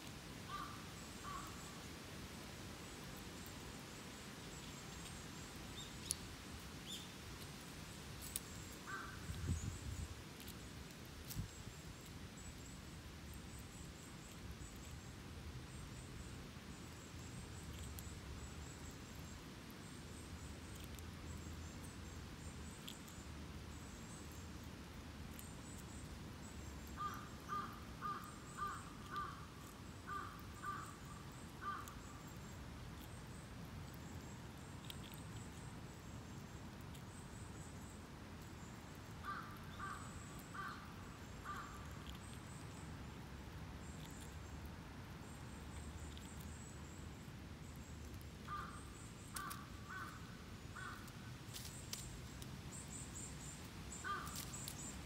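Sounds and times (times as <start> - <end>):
small birds chirping: 0.0 - 1.9, 2.8 - 55.0.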